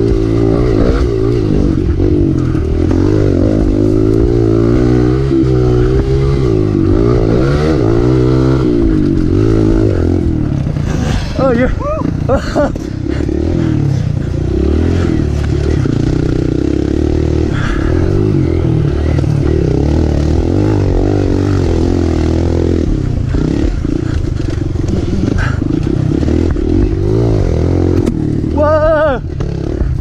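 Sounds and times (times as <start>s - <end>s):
dirt bike engine revving: 0.0s - 30.0s
rattling and scraping: 0.0s - 30.0s.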